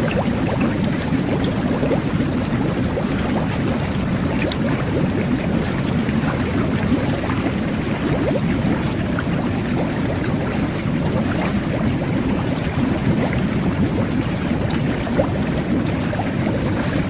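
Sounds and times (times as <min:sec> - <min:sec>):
bubbles gurgling and popping: 0:00.0 - 0:17.0
whirlpool jets churning water: 0:00.0 - 0:17.0.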